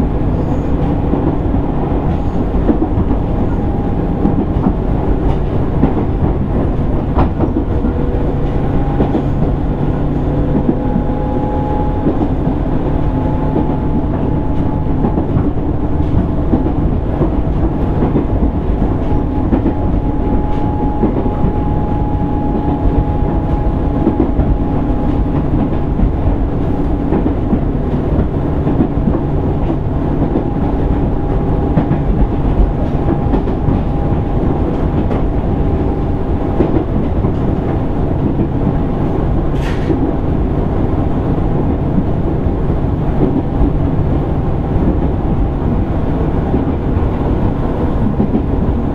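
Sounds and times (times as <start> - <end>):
rail joint clicks: 0.0 - 48.9
train wheels rumbling on rail: 0.0 - 48.9.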